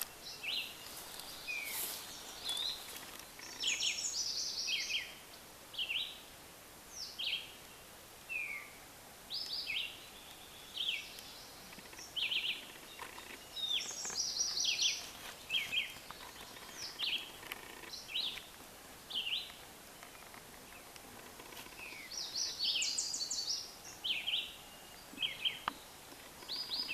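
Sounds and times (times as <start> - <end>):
birds chirping: 0.0 - 6.3, 6.9 - 26.9
steady background hiss: 0.0 - 26.9.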